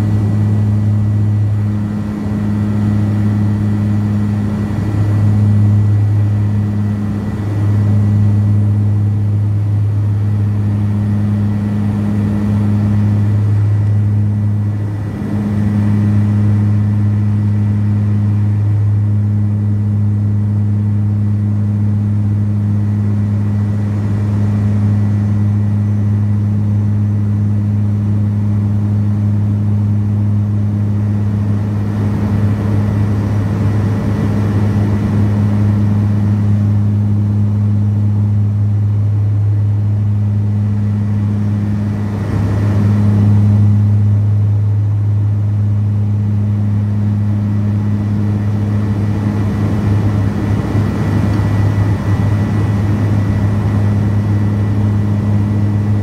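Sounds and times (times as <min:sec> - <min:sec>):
propeller hum in aircraft cabin: 0:00.0 - 0:56.0
rush of air noise: 0:00.0 - 0:56.0.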